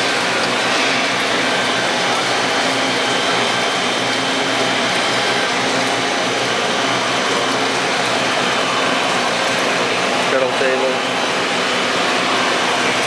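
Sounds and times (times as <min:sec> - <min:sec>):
industrial machinery whirring: 0:00.0 - 0:13.0.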